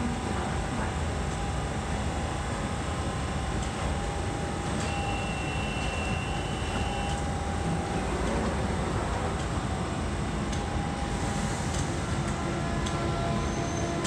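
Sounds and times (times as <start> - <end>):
train hum and rumble: 0.0 - 14.0.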